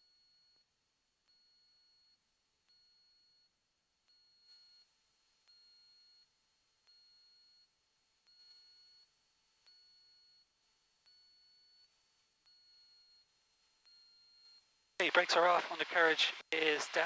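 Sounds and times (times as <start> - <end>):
faint high-pitched electronic beeps: 0.0 - 17.0.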